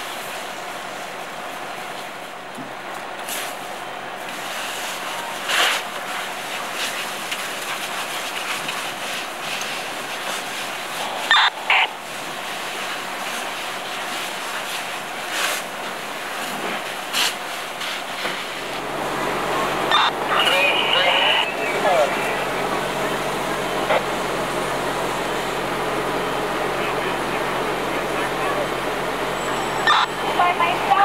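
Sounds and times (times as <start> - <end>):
fire hose spraying water: 0.0 - 31.0.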